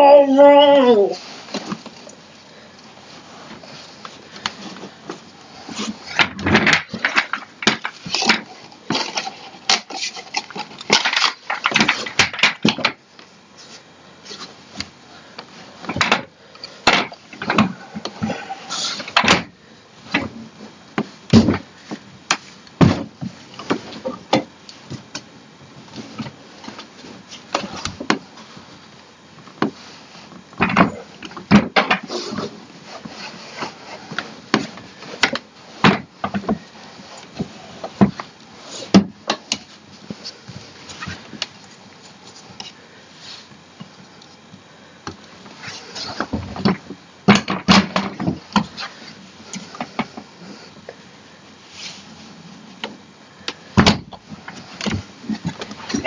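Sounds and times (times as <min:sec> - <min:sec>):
chair parts knocking and scraping: 0:03.1 - 0:14.9, 0:15.5 - 0:28.8, 0:29.4 - 0:41.6, 0:45.1 - 0:50.9, 0:53.8 - 0:56.0.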